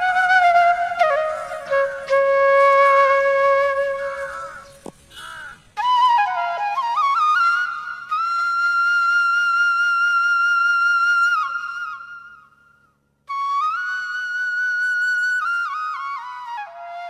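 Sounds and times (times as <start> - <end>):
solo flute melody: 0.0 - 4.8, 5.8 - 17.0.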